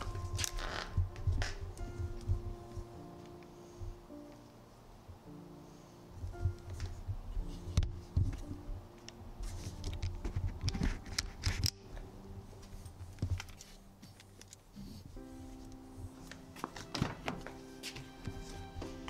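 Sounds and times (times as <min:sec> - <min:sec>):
soft rustling: 0:00.0 - 0:05.0, 0:05.8 - 0:19.0.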